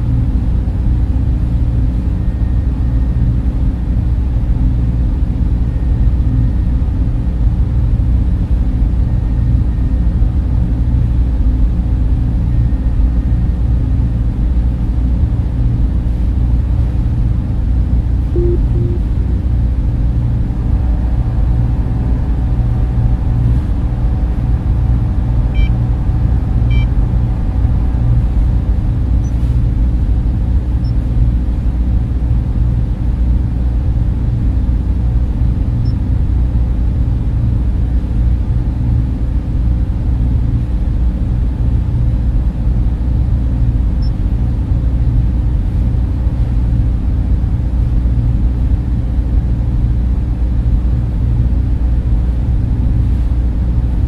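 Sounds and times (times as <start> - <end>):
cooling fans whirring: 0.0 - 54.0.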